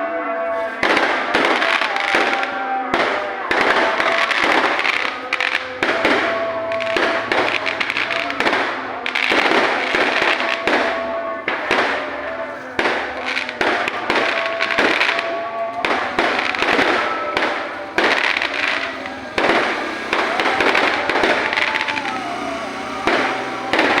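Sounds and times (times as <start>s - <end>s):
fireworks crackling bangs: 0.0s - 24.0s.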